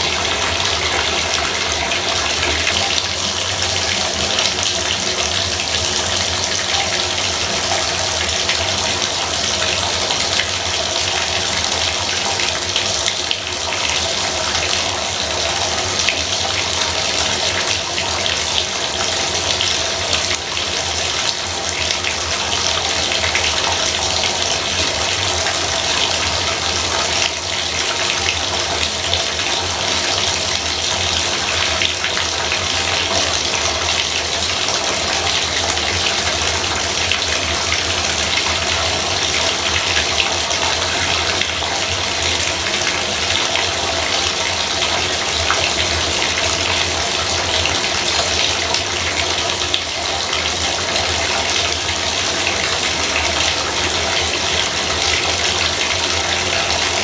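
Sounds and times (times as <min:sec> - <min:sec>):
faucet water running into tub: 0:00.0 - 0:57.0.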